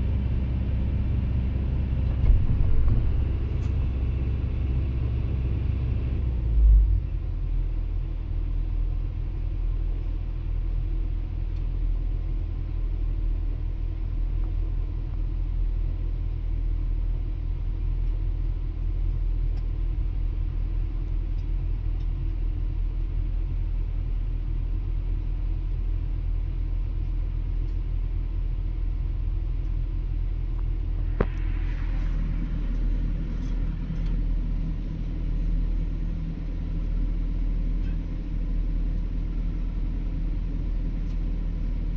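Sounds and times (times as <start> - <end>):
excavator engine humming: 0.0 - 41.9.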